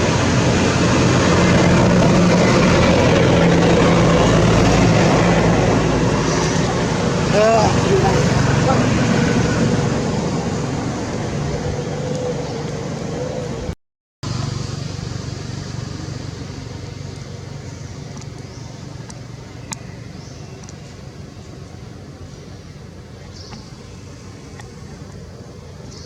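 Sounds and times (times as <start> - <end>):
low mechanical rumble: 0.0 - 26.0.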